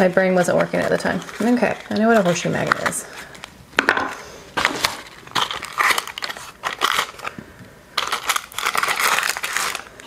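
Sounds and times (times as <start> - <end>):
plastic packaging crinkling: 0.0 - 3.6, 4.5 - 10.0.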